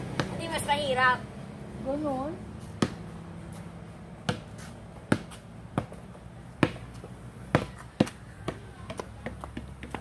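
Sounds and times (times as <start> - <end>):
basketball bouncing on concrete: 0.0 - 1.0, 2.6 - 10.0.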